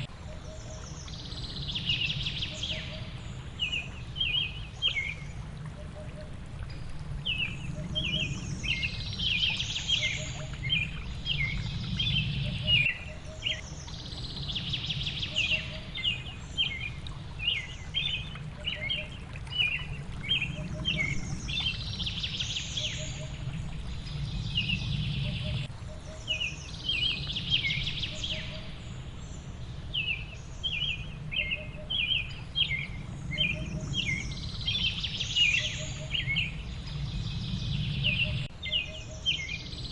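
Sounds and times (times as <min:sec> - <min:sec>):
songbirds chirping: 0:00.0 - 0:39.9
water rushing: 0:00.0 - 0:39.9.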